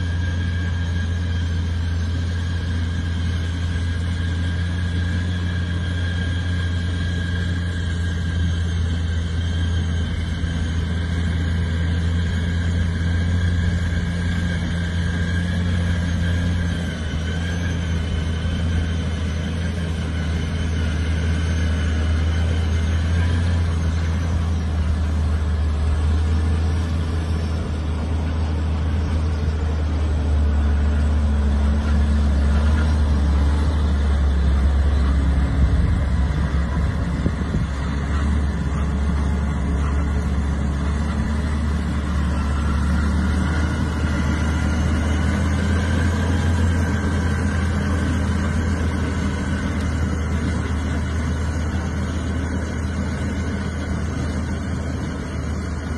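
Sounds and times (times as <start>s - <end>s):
manure spreader mechanism running: 0.0s - 55.9s
truck engine drone: 0.0s - 55.9s.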